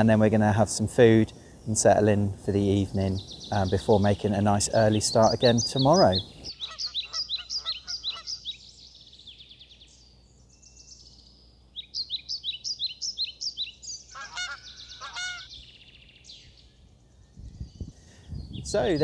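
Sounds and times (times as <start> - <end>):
small birds chirping: 0.0 - 19.0
harsh repeated bird calls: 1.4 - 10.2, 11.8 - 19.0.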